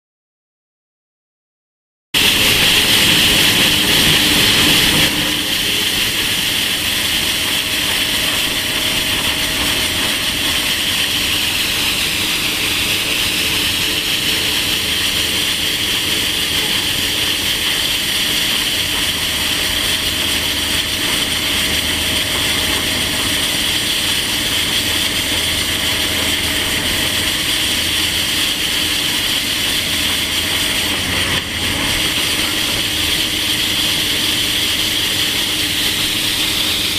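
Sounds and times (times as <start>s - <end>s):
excavator engine running: 2.2s - 36.9s
saw blade grinding rock: 2.2s - 36.9s.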